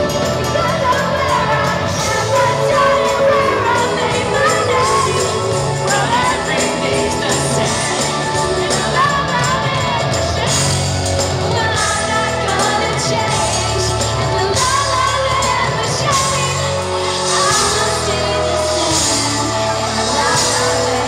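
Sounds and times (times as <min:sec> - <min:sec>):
pop song over sound system: 0:00.0 - 0:21.0
women singing into microphones: 0:00.0 - 0:21.0.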